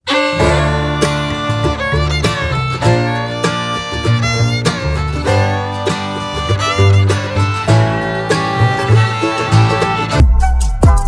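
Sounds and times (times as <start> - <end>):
fiddle: 0.0 - 10.3
plucked guitar: 0.0 - 10.3
bass line: 0.0 - 11.0.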